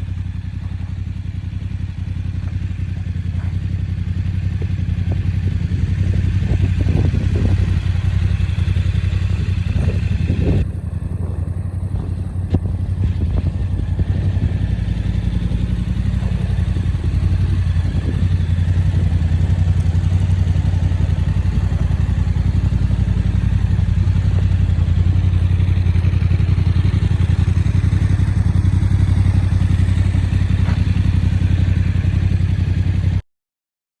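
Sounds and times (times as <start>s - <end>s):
motorcycle engine idling: 0.0s - 33.2s.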